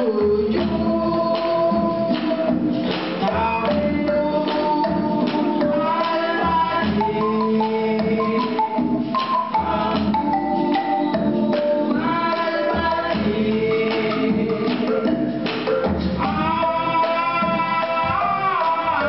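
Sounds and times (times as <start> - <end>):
steady percussion: 0.0 - 19.0
voices singing together: 0.0 - 19.0.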